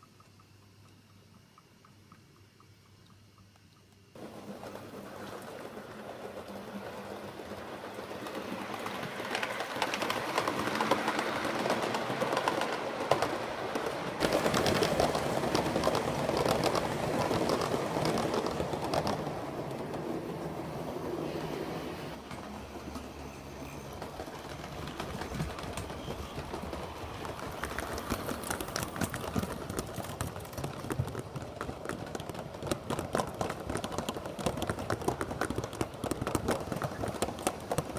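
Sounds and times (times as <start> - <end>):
train running on rails: 4.1 - 37.9
wheels clicking over track: 4.2 - 37.9.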